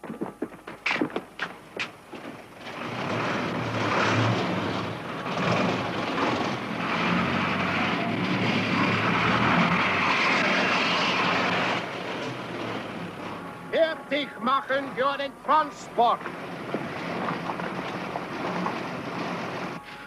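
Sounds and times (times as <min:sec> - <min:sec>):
heavy engine drone: 0:01.4 - 0:20.0.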